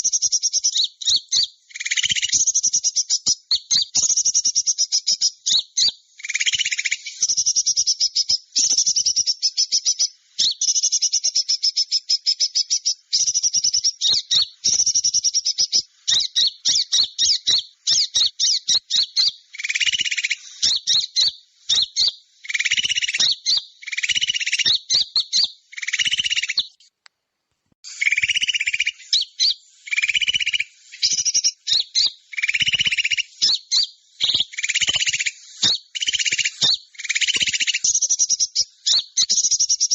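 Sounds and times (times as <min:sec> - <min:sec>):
small birds chattering trills: 0:00.0 - 0:26.9, 0:27.8 - 0:39.9.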